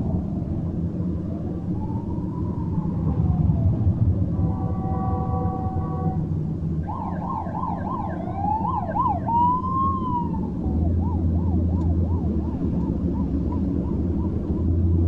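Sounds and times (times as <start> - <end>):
city traffic rumbling: 0.0 - 15.0
emergency vehicle sirens wailing: 0.0 - 15.0.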